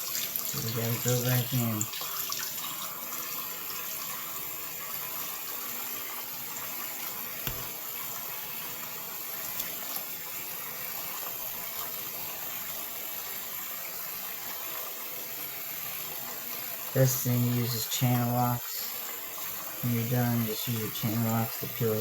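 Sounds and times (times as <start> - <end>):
faucet running into sink: 0.0 - 22.0.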